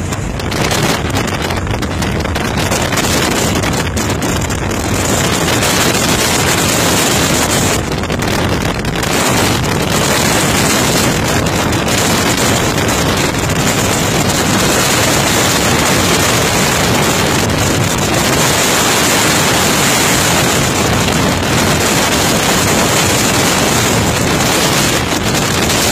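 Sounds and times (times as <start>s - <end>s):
car engine running: 0.0s - 25.9s
wind rushing over microphone: 0.0s - 25.9s.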